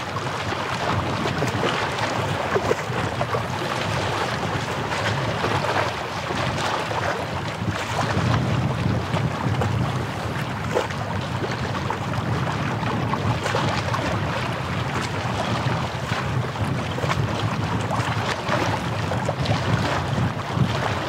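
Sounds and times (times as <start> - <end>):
lapping shore water: 0.0 - 21.0
wind buffeting microphone: 0.0 - 21.0.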